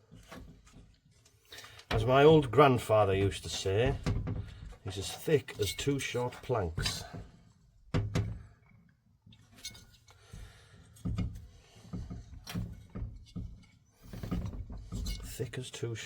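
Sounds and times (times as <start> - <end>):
knocks and clicks of parts handled: 0.0 - 15.5.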